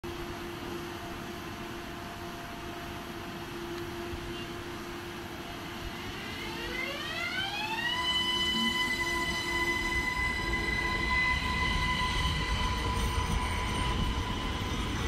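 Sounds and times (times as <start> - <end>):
electric train humming: 0.0 - 15.0
inverter whine rising in pitch: 0.2 - 15.0.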